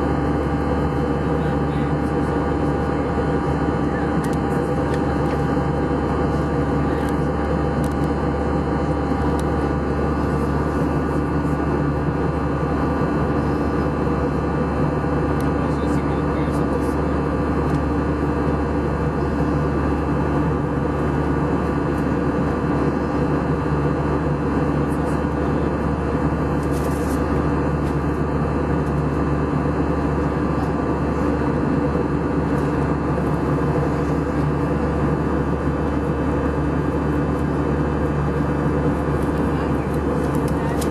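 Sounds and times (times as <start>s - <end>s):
jet cabin engine drone: 0.0s - 40.9s.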